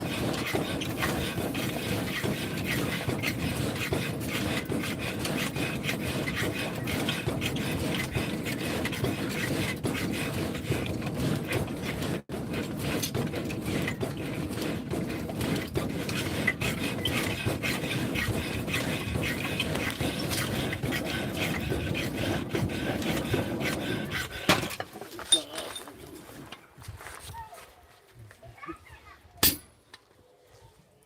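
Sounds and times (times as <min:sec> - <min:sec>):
rasping and scraping strokes: 0:00.0 - 0:26.6.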